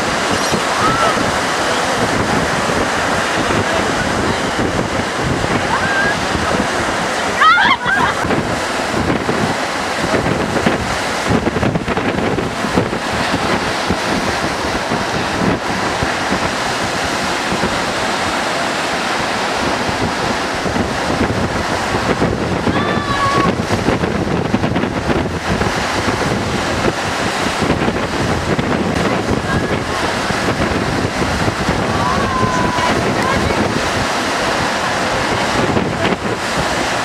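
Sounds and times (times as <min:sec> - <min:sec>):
waves breaking: 0:00.0 - 0:37.0
wind buffeting microphone: 0:00.0 - 0:37.0.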